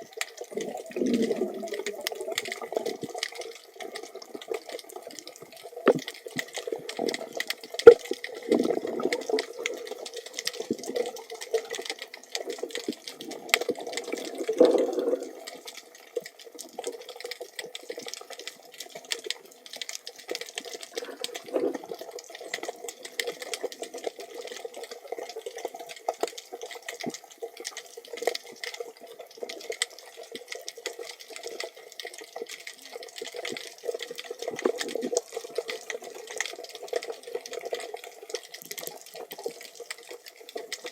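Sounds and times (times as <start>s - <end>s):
water sloshing and gurgling: 0.0s - 40.9s.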